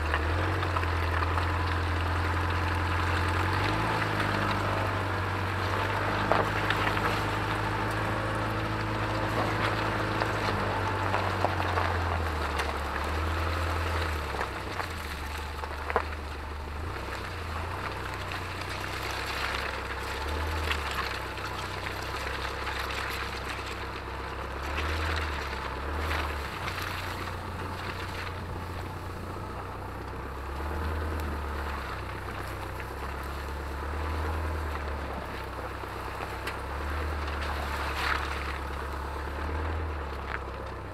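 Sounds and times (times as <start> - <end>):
diesel engine droning: 0.0 - 40.9
tyres crunching over gravel: 0.0 - 40.9.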